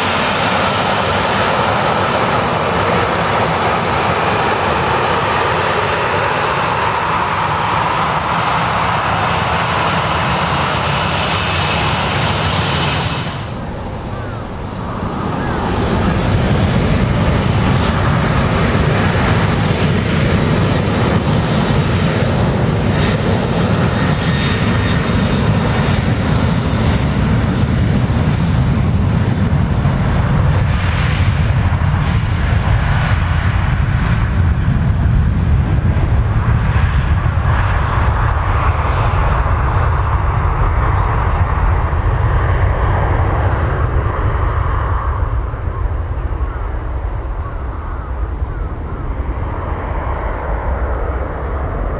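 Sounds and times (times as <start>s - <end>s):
jet engines at takeoff: 0.0s - 51.9s.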